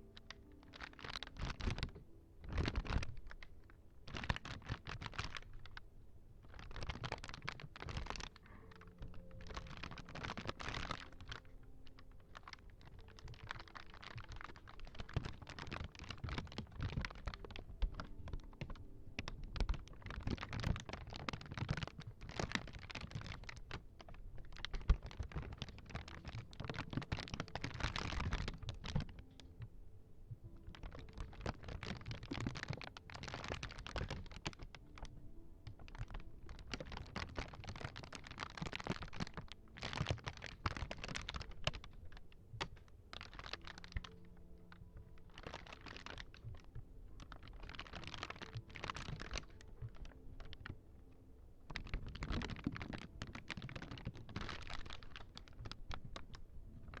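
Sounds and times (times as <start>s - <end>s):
clicking and tapping on small props: 0.0s - 29.7s, 30.3s - 57.0s.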